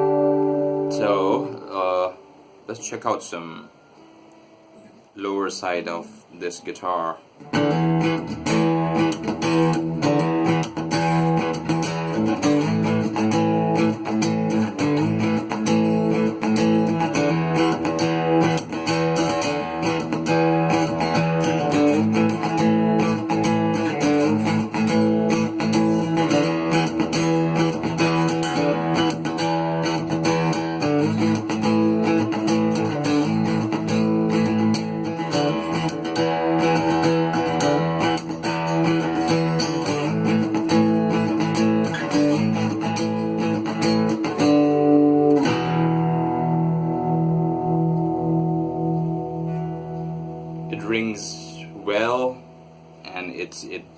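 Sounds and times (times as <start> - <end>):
acoustic guitar plucking: 0.0 - 53.9.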